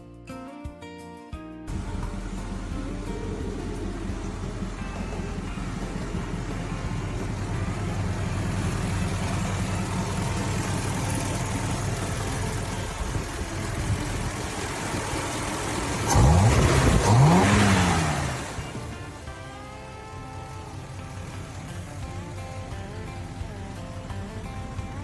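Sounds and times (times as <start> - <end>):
car engine running and revving: 1.7 - 25.0.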